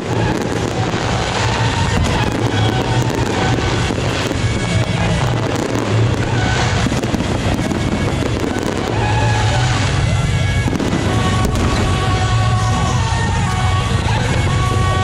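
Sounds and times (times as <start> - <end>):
fireworks crackling and popping: 0.0 - 15.0
loud music: 0.0 - 15.0.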